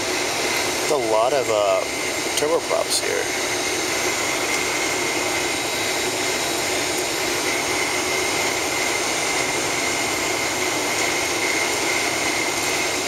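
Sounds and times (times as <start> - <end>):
jet cabin hiss and whine: 0.0 - 13.0.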